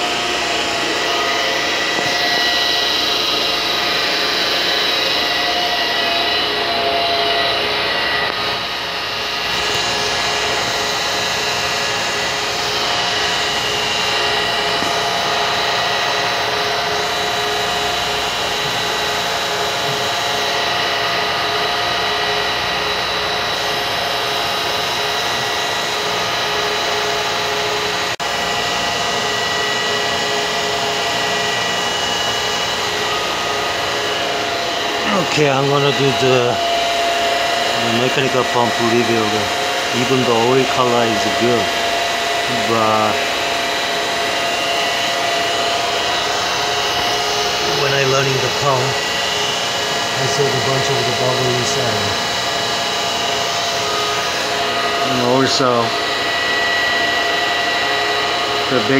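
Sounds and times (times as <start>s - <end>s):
vacuum pump humming and whining: 0.0s - 58.9s.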